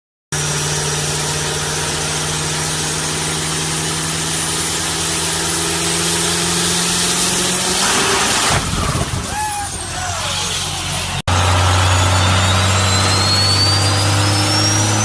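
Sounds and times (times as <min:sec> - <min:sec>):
vehicle engine idling: 0:00.4 - 0:14.0.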